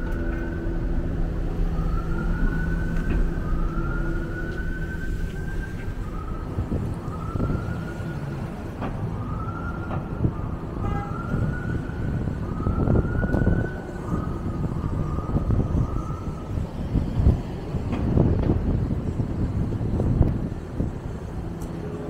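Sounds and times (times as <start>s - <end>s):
city traffic rumble: 0.0s - 22.0s
distant siren wailing: 0.0s - 22.0s.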